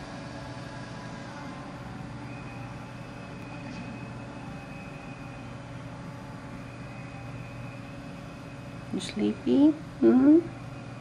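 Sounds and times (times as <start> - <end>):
faint high whine: 0.0 - 11.0
low background hum: 0.0 - 11.0.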